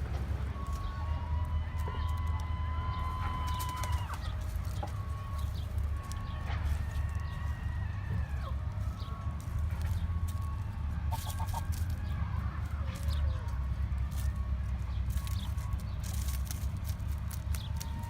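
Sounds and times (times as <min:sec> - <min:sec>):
chickens clucking: 0:00.0 - 0:18.0
steady low rumble: 0:00.0 - 0:18.0.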